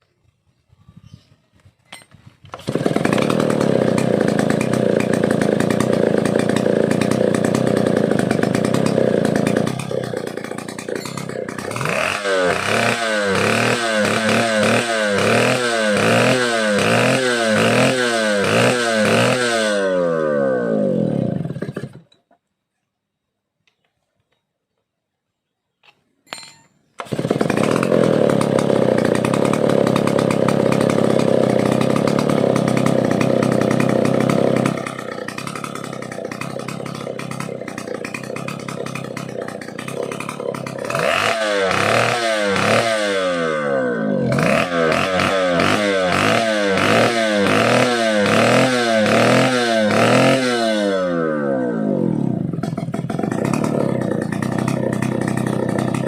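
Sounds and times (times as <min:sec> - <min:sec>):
chainsaw engine revving: 0:02.5 - 0:22.1, 0:27.0 - 0:56.0.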